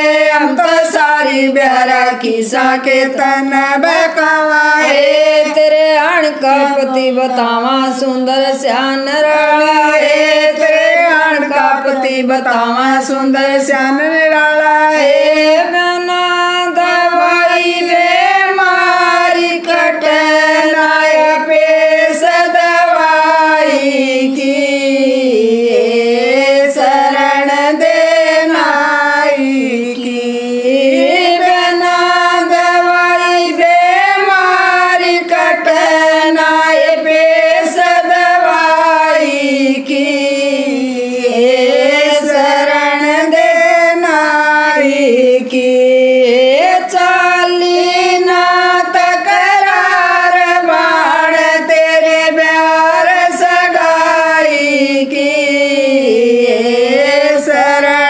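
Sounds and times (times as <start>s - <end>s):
women singing together: 0.0s - 58.0s.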